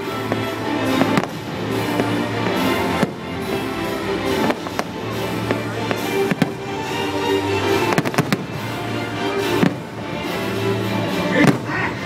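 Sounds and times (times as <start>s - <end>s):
fireworks bursting with bangs: 0.0s - 12.0s
music: 0.0s - 12.0s.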